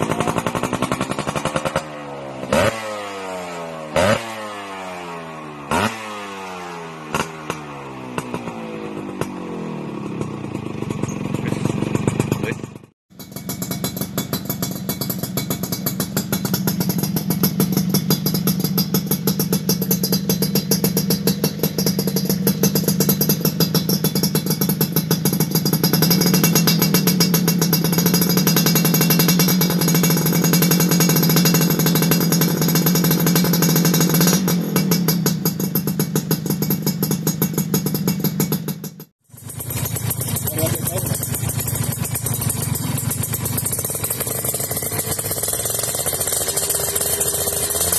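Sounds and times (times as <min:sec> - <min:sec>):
motorcycle engine revving high: 0:00.0 - 0:47.9.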